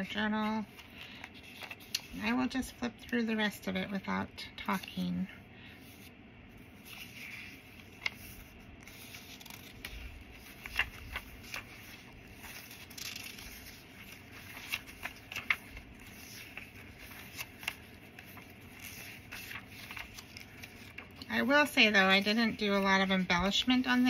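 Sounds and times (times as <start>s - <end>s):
paper pages rustling: 0.0s - 3.2s, 6.7s - 24.0s.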